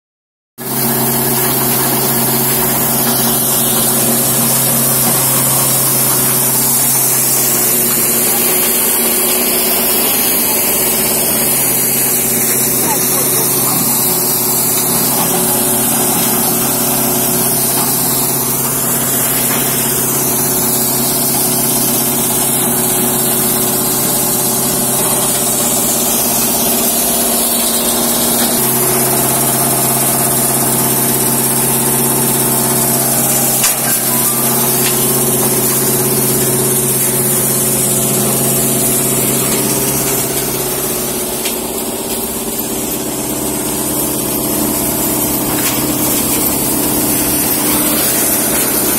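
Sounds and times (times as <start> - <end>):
crushing machine drone: 0.6 - 48.9
loud high hiss: 1.2 - 42.0.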